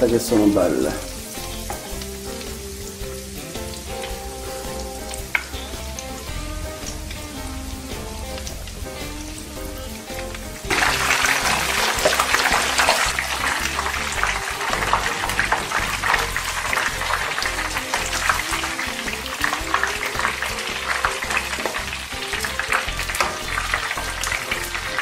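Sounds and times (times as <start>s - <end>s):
oil sizzling while deep-frying: 0.0s - 25.0s.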